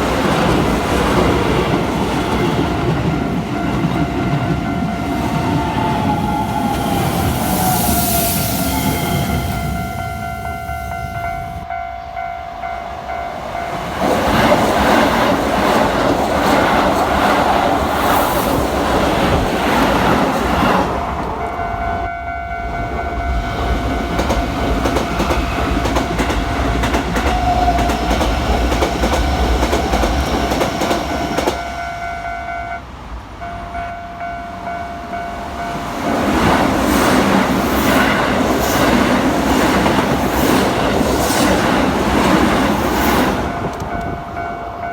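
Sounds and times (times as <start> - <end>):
train rumbling clatter: 0.0 - 12.3, 13.0 - 32.2, 33.2 - 44.9.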